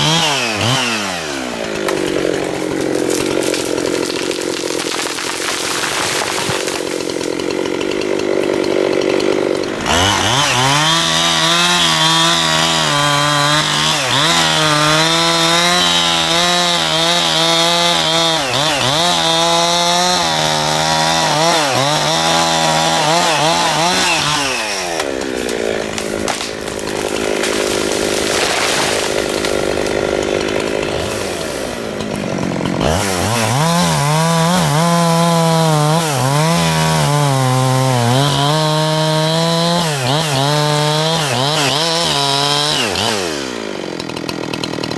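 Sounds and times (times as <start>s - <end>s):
chainsaw running: 0.0s - 44.9s.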